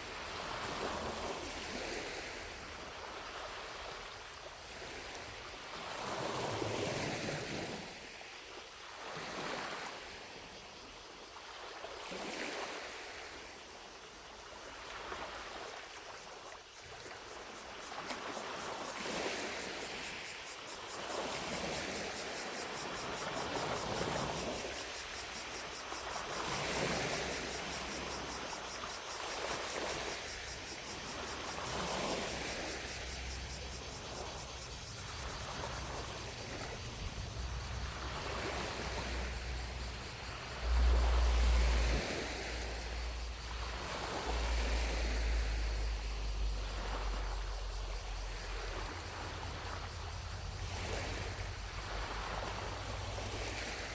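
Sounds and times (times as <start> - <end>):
distant cicadas trilling: 0.0 - 53.9
waves lapping at shore: 0.0 - 53.9.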